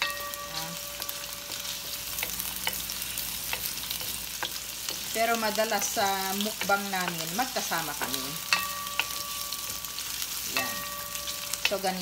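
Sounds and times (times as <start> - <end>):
garlic and ginger sizzling in oil: 0.0 - 12.0.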